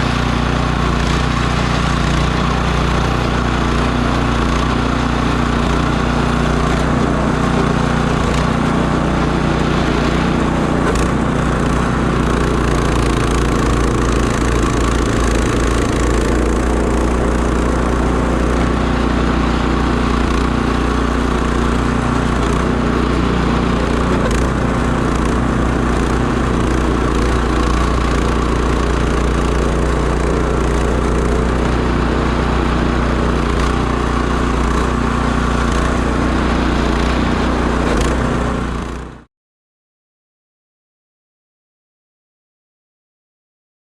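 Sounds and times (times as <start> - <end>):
vehicle engine running: 0.0 - 39.3.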